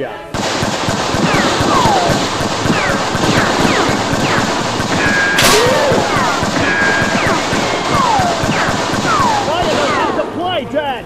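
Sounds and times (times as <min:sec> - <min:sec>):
rapid gunfire: 0:00.4 - 0:10.6
sharp crack: 0:00.4 - 0:10.6
ricochet whines: 0:01.0 - 0:10.3.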